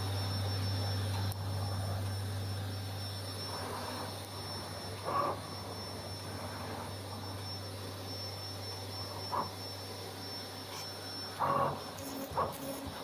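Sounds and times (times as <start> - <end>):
cutting machine humming with whine: 0.0 - 13.0.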